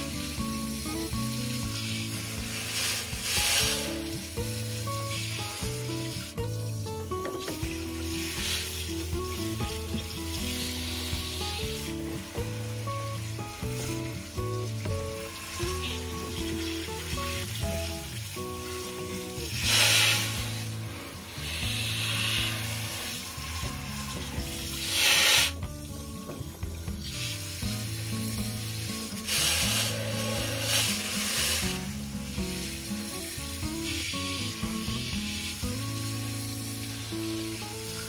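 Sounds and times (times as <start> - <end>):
background music with bass line: 0.0 - 38.0
hose spray hissing: 0.0 - 38.0.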